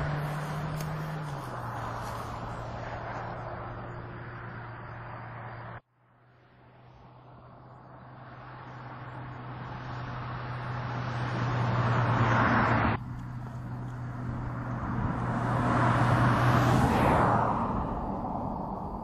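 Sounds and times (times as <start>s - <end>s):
car engine hum: 0.0s - 19.0s.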